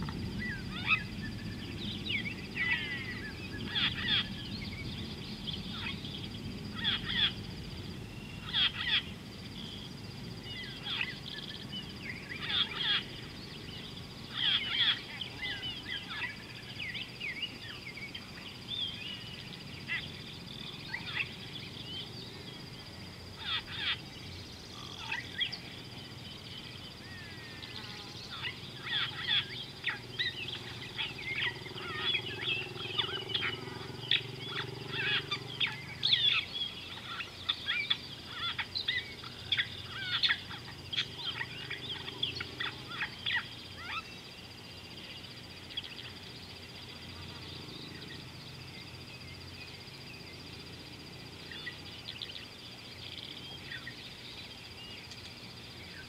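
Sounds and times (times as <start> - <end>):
birds chattering calls: 0.0 - 56.0
low outdoor background noise: 0.0 - 56.0
steady high-pitched hum: 0.0 - 56.0.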